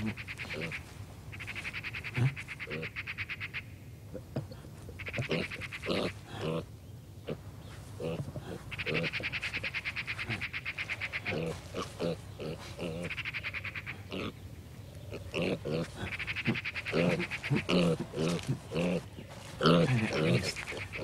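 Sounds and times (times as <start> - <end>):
pig grunting: 0.0 - 0.8, 2.0 - 3.0, 4.1 - 14.4, 15.1 - 21.0.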